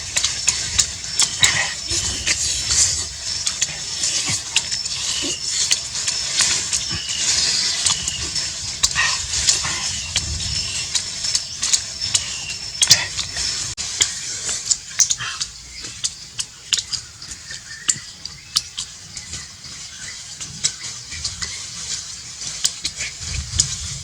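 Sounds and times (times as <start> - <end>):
intestine sizzling over heat: 0.0 - 24.0
sharp crackles: 0.0 - 24.0.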